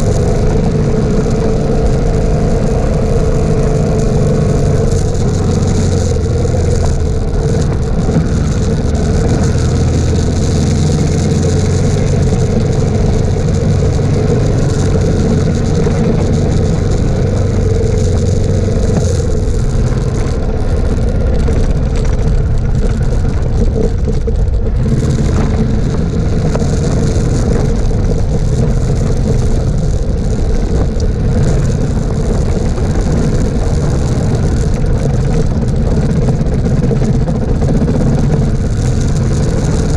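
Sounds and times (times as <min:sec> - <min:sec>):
motorcycle engine running: 0:00.0 - 0:39.9
tyre noise on dirt: 0:00.0 - 0:39.9
wind noise on microphone: 0:00.0 - 0:39.9.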